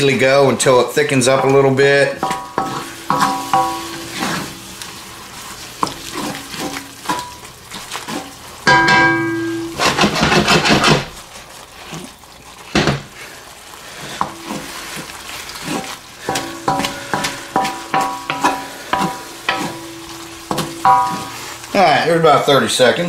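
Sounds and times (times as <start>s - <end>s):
steady sizzle: 0.0s - 23.0s
wooden spatula scraping wok: 0.0s - 23.0s.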